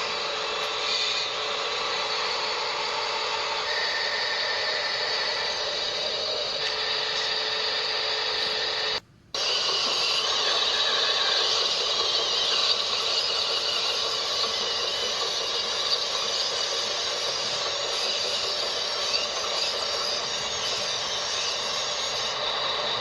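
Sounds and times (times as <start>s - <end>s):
small electric motors whirring: 0.0s - 23.0s.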